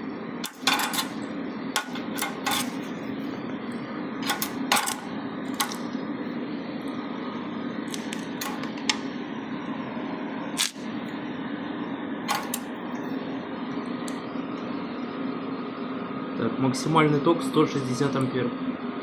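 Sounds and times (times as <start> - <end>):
cooling fan humming: 0.0 - 19.0.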